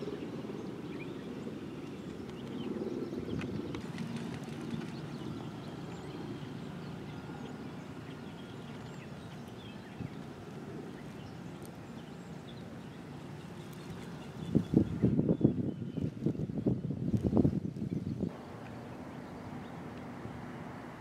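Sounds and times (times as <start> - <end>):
small birds chirping: 0.0 - 20.2.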